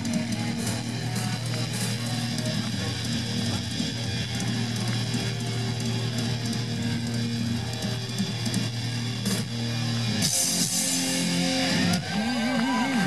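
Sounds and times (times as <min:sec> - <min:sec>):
crashing cymbals: 0:00.0 - 0:13.0
heavy metal band playing live: 0:00.0 - 0:13.0.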